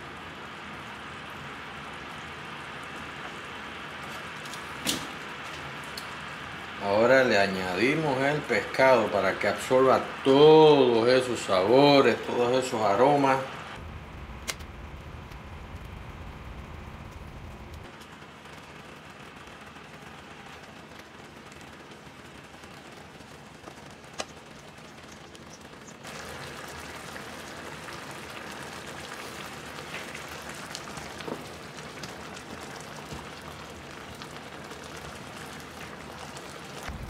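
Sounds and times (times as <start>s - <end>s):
sauce simmering and bubbling: 0.0s - 12.2s, 14.8s - 37.0s.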